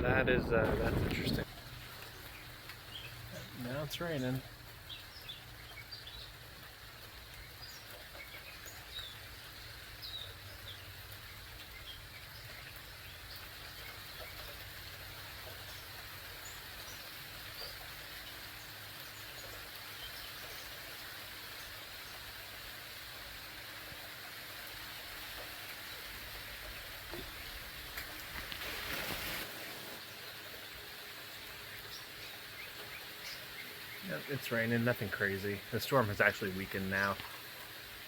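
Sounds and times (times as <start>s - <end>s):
light rain falling: 0.0s - 38.0s.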